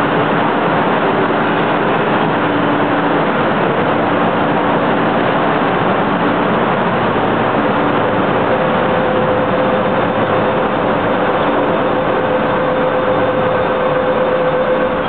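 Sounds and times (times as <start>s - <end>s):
constant hum: 0.0s - 15.0s
train rumbling: 0.0s - 15.0s.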